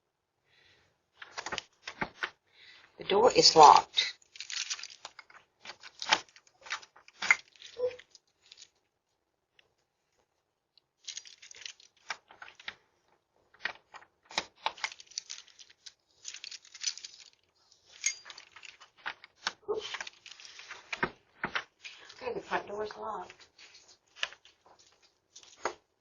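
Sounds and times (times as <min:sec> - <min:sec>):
objects being handled: 0:01.1 - 0:02.9, 0:03.6 - 0:26.0.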